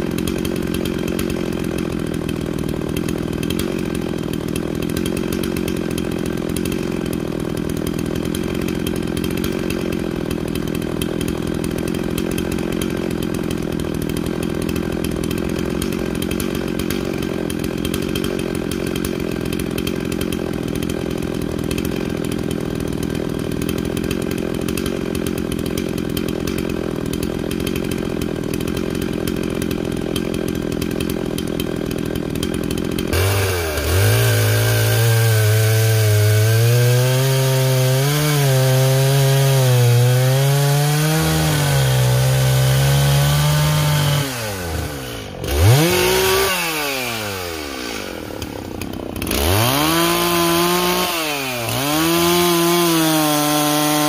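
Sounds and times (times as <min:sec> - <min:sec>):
chainsaw engine running steadily: 0:00.0 - 0:54.0.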